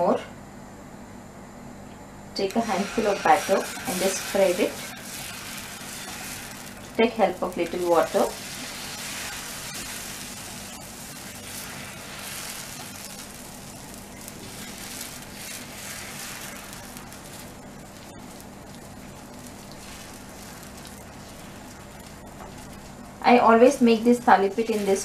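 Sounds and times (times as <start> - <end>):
batter sizzling on hot griddle: 2.4 - 25.0.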